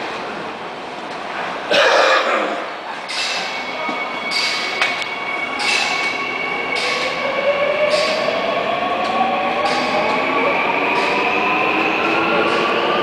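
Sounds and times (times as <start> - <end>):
subway train running hum with whine: 0.0 - 13.0.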